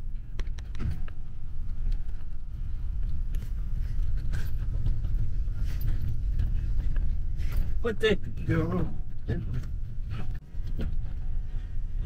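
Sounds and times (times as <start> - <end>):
light clicks and rattles: 0.0 - 11.8
bus engine rumble: 0.0 - 12.0
road noise: 0.0 - 12.0.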